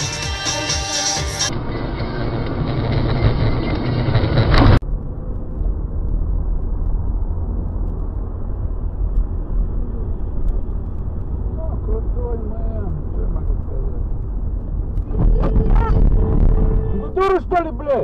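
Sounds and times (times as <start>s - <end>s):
low road rumble: 0.0s - 18.0s
dense rushing noise: 1.5s - 18.0s.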